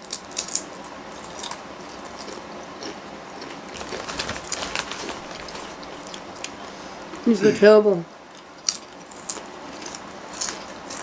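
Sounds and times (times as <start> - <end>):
potato chips crunching: 0.0 - 6.8, 8.6 - 11.0.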